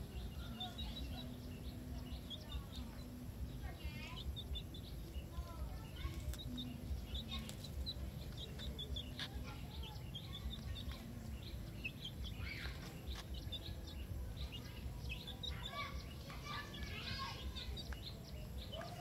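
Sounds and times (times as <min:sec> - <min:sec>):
low outdoor background rumble: 0:00.0 - 0:19.0
small birds chirping: 0:00.0 - 0:19.0.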